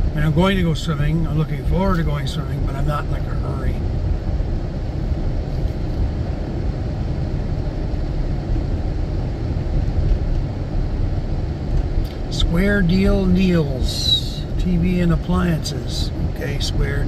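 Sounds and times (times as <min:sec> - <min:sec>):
truck road and engine rumble: 0:00.0 - 0:17.0.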